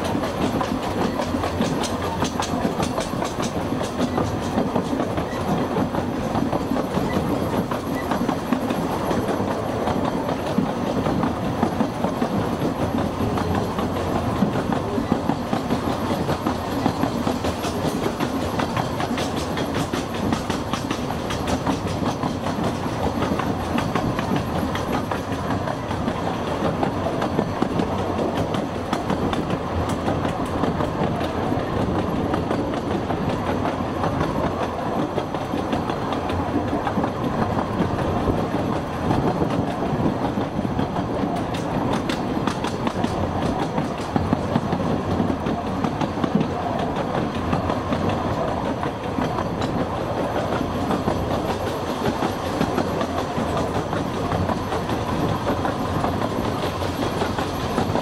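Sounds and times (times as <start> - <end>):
railway carriages rumbling: 0.0 - 58.0
wheels clacking over rail joints: 0.0 - 58.0.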